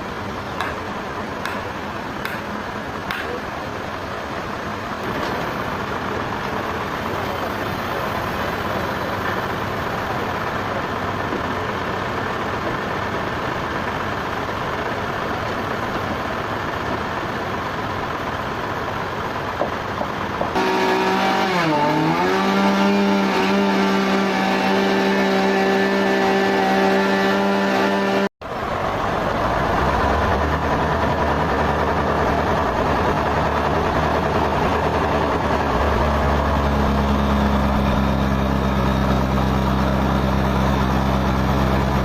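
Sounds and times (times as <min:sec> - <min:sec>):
sawmill machinery running: 0:00.0 - 0:42.0.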